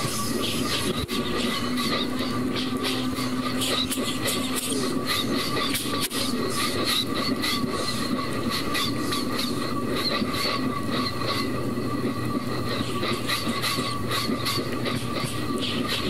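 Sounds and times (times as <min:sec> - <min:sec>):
vocal imitation of a train: 0:00.0 - 0:16.0.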